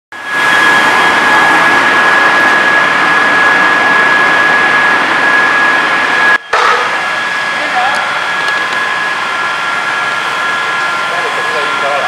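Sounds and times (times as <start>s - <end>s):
fire engine water pump running: 0.1s - 12.0s.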